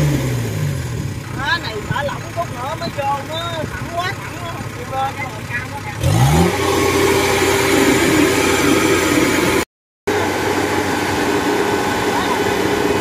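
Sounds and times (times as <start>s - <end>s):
diesel engine revving and running: 0.0s - 13.0s.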